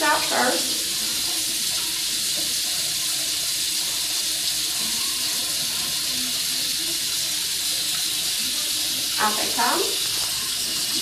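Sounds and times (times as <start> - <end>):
faucet water running into sink: 0.0 - 11.0.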